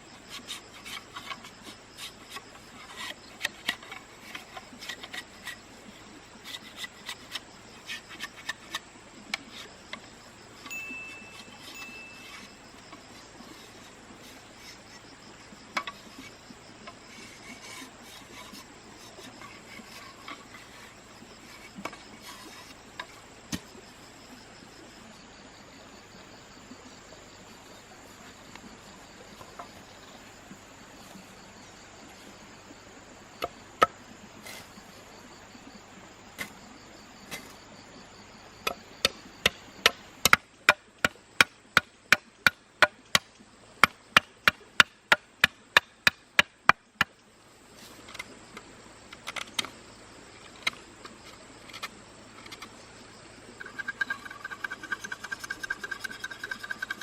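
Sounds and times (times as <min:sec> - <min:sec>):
forest insects humming: 0:00.0 - 0:57.0.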